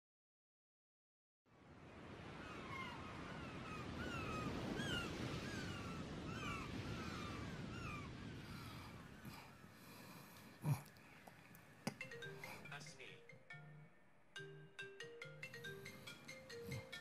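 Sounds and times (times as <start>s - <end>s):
outdoor background noise: 1.5s - 17.0s.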